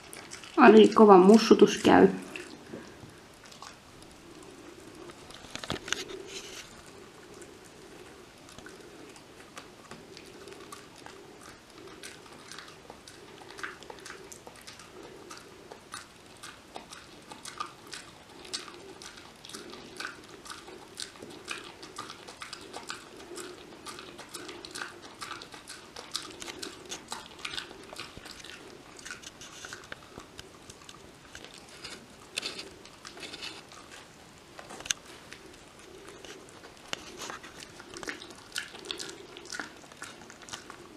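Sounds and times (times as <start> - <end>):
dog crunching a chew: 0.0 - 40.9
teeth clicking on chew: 0.0 - 40.9.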